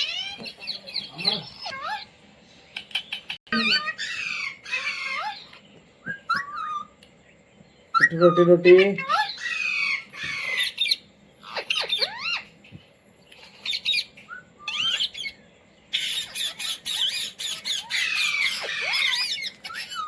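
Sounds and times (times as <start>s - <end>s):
parakeet squawking: 0.0s - 2.2s, 2.8s - 5.6s, 8.0s - 12.6s, 13.4s - 20.0s.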